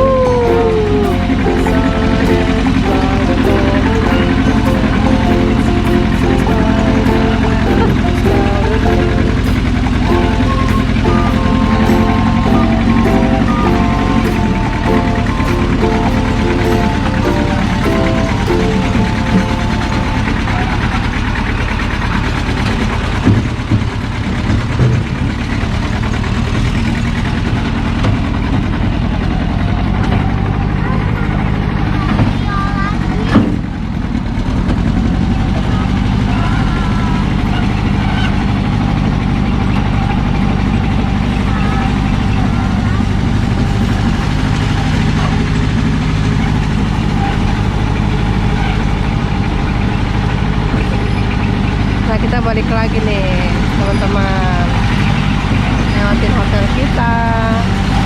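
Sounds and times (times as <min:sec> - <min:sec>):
vehicle engine humming: 0:00.0 - 0:33.3, 0:34.0 - 0:58.0.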